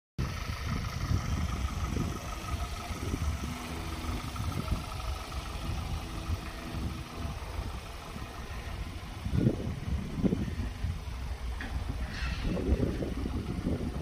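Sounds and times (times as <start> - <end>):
faint engine hum: 0.2 - 14.0
wind buffeting microphone: 0.2 - 14.0.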